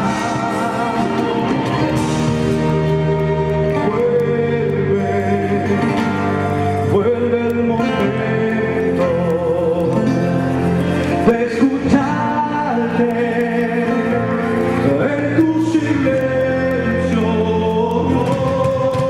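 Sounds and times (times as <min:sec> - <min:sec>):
guitar and other instruments: 0:00.0 - 0:19.0
man singing: 0:00.0 - 0:19.0.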